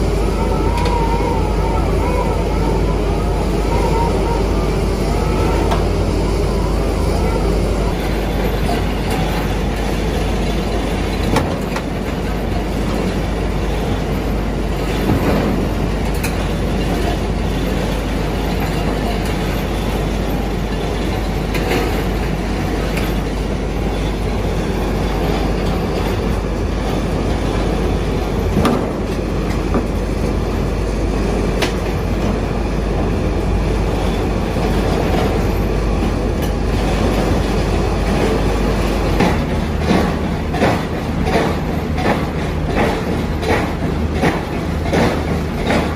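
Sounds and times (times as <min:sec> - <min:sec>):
drilling rig rumbling: 0:00.0 - 0:45.9.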